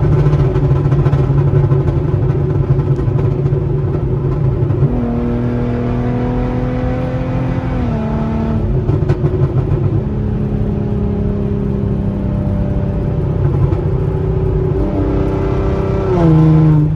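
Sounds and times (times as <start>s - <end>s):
car engine and exhaust accelerating: 0.0s - 16.9s.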